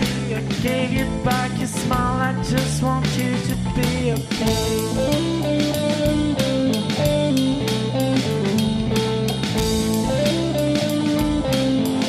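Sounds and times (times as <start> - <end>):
instrumental guitar and drums: 0.0 - 12.0.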